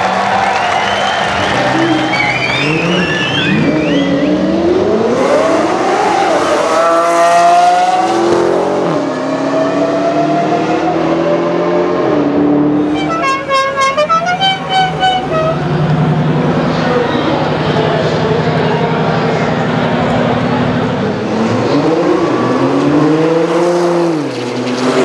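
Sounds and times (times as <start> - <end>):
car engine accelerating: 0.1 - 25.0.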